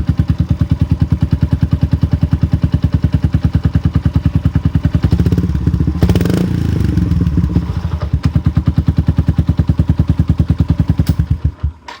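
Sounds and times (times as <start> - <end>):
small motorcycle engine revving and idling: 0.0 - 12.0.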